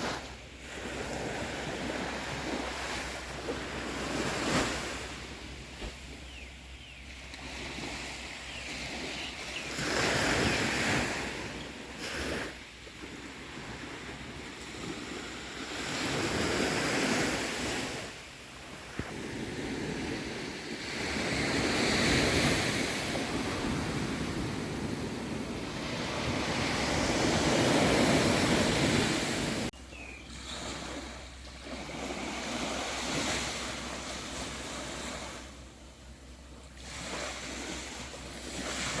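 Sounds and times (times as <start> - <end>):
sea waves washing onto beach: 0.0 - 6.2, 9.7 - 35.8, 36.4 - 39.0
wind on microphone: 0.0 - 39.0.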